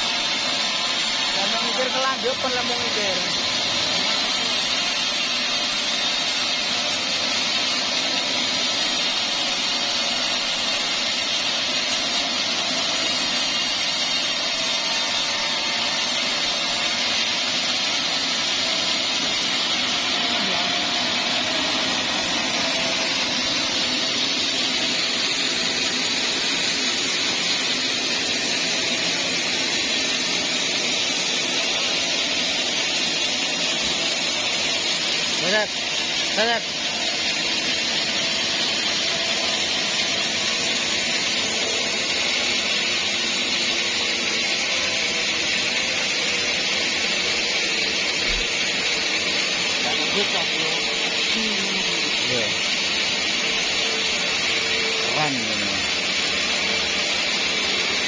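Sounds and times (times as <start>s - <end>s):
sawmill running: 0.0s - 58.0s.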